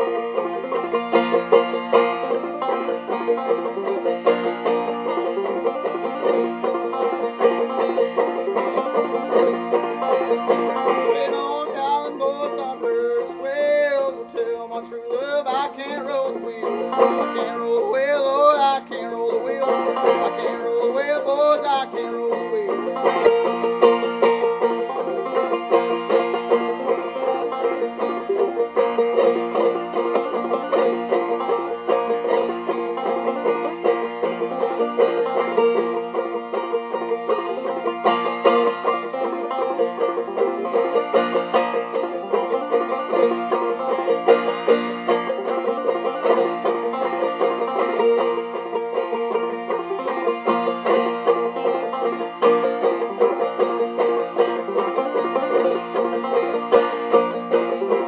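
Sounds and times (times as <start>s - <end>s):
banjo playing: 0.0s - 58.0s.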